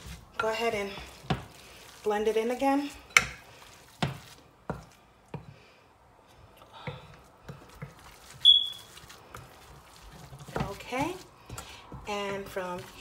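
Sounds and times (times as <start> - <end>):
mixing knocks in a bowl: 0.0 - 5.6, 6.8 - 13.0.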